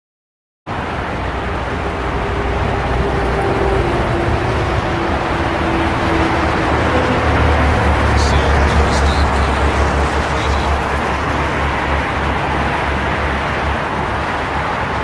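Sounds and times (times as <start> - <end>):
highway traffic rushing: 0.8 - 15.0.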